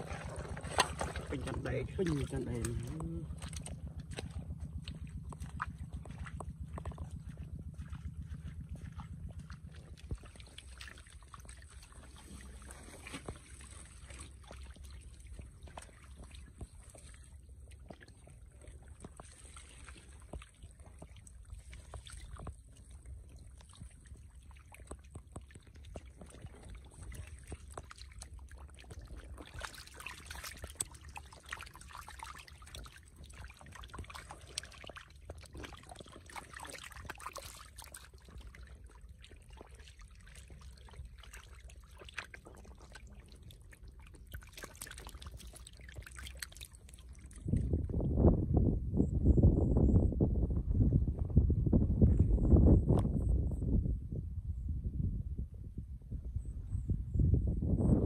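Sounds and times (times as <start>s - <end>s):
fish splashing in water: 0.0s - 47.8s
water trickling: 0.0s - 47.8s.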